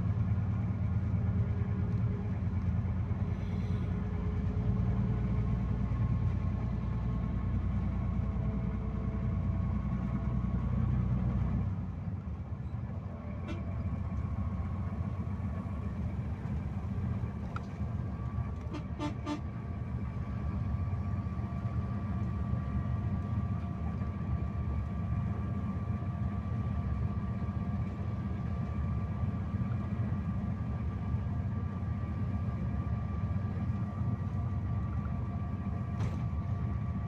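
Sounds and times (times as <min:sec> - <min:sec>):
bus engine and tyres rumbling: 0:00.0 - 0:37.0.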